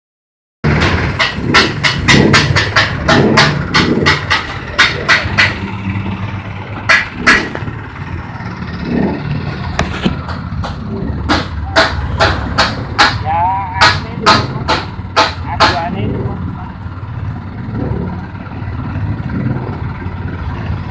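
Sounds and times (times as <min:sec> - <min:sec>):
rapid clattering knocks: 0:00.7 - 0:20.7.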